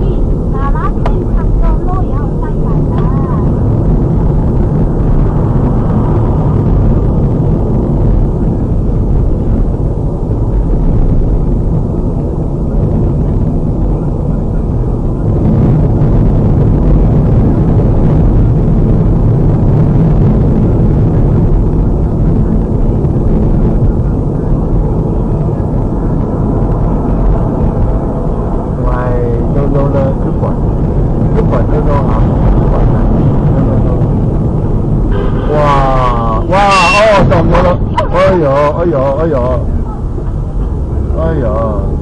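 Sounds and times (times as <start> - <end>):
car interior road noise: 0.0 - 42.0.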